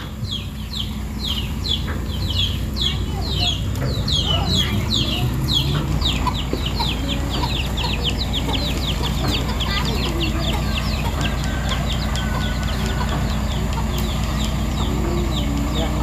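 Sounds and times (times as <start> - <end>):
birds chirping: 0.0 - 16.0
diesel engine idling: 0.0 - 16.0.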